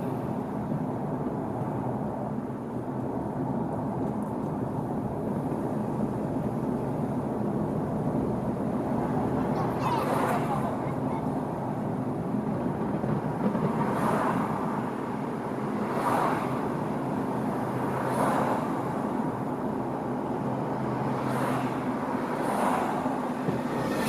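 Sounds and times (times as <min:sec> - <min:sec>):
cars passing: 0:00.0 - 0:24.0
road traffic hum: 0:00.0 - 0:24.0.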